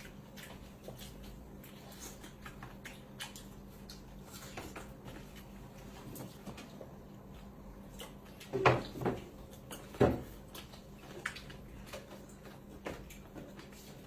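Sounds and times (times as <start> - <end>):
quiet chewing: 0.0 - 14.0.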